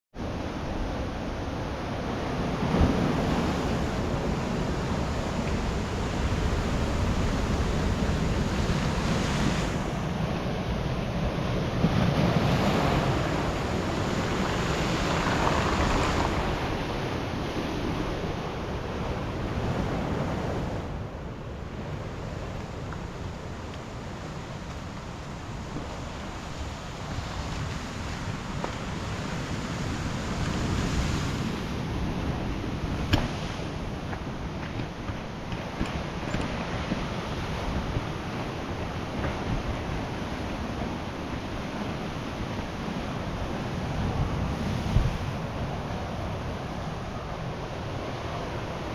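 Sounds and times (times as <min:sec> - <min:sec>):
sea surf washing ashore: 0:00.2 - 0:48.9
wind buffeting microphone: 0:00.5 - 0:21.1, 0:25.0 - 0:48.9.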